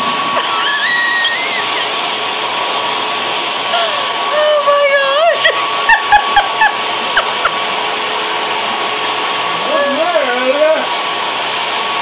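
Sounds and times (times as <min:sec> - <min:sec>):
pet dryer blowing with motor whine: 0:00.0 - 0:12.0.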